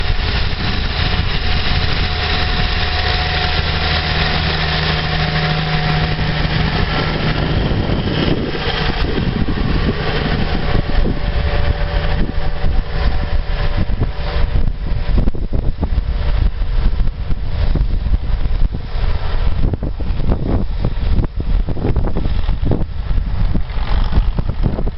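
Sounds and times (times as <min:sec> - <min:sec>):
tractor diesel engine running: 0:00.0 - 0:24.9
wind buffeting microphone: 0:00.0 - 0:24.9.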